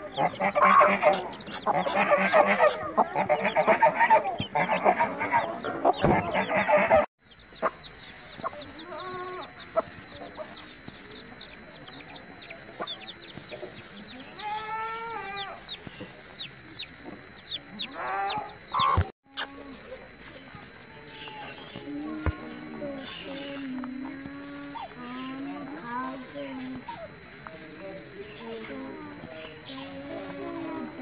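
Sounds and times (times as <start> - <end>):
chickens clucking: 0.0 - 31.0
chicks peeping: 0.0 - 31.0.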